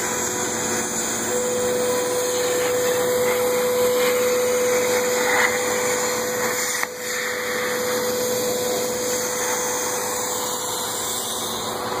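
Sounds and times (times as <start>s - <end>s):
plasma cutting table hissing: 0.0s - 12.0s.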